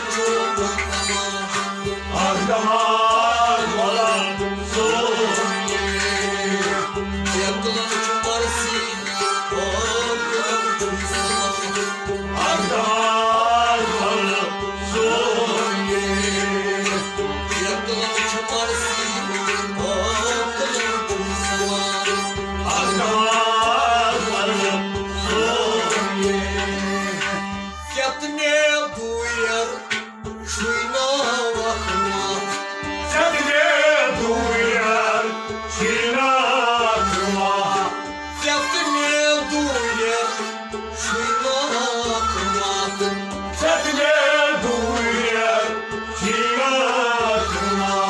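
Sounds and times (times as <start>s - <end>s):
long-necked stringed instrument: 0.0s - 48.0s
man singing: 0.0s - 48.0s.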